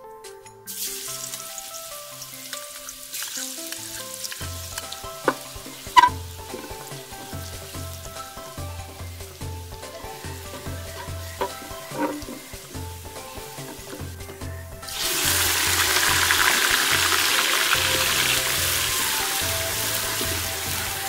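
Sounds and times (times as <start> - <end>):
paste sizzling in hot oil: 0.7 - 21.0
wooden spatula stirring: 2.5 - 21.0.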